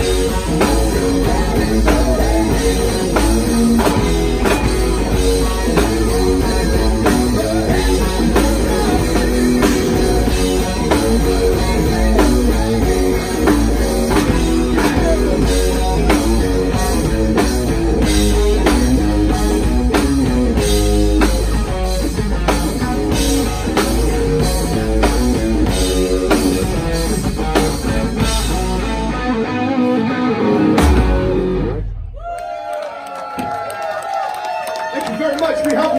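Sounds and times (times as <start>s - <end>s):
electric guitars: 0.0s - 32.2s
drum kit beat: 0.0s - 32.3s
electric bass: 0.0s - 32.3s.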